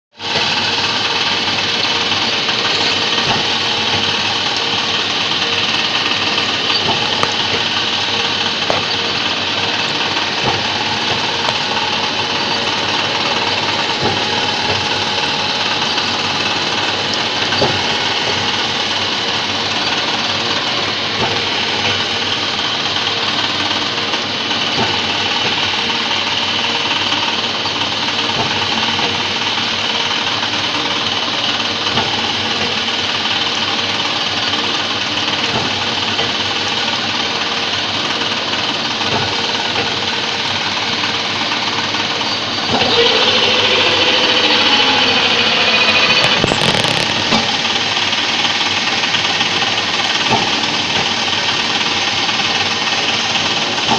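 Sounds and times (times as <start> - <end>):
milling machine cutting metal: 0.2 - 53.9.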